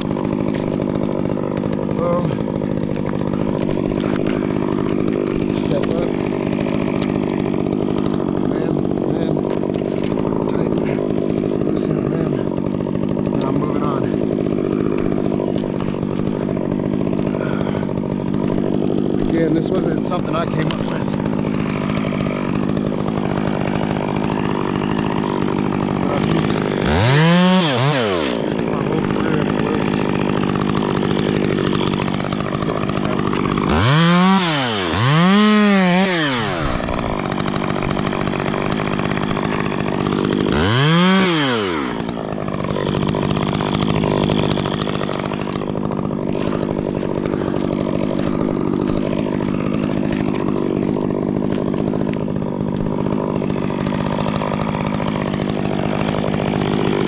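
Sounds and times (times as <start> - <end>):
chainsaw idling: 0.0 - 57.0
chainsaw revving: 0.0 - 57.0.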